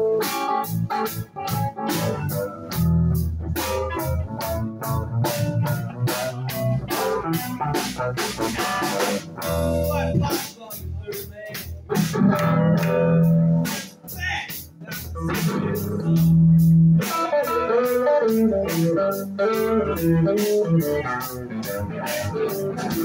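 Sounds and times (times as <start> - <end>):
heavy bass line: 0.0 - 23.0
live rock band playing: 0.0 - 23.0
drum and cymbal hits: 0.2 - 23.0.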